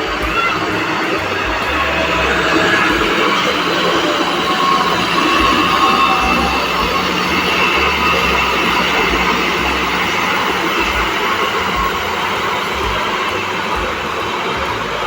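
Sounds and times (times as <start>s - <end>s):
heavy machinery rumbling: 0.0s - 15.0s.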